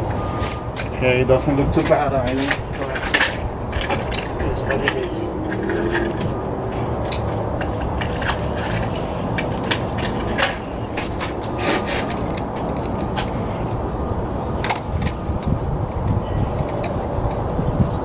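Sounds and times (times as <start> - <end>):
hand tools clicking on metal: 0.4 - 18.0.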